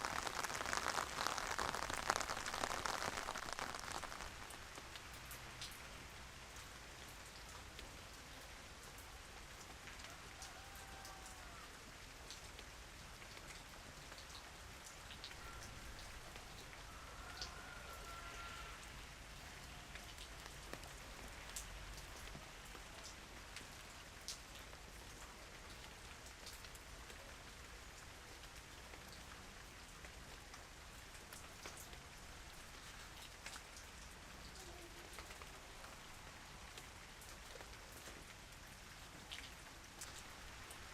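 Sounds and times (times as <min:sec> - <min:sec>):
light rain drops ticking: 0:00.0 - 0:40.9.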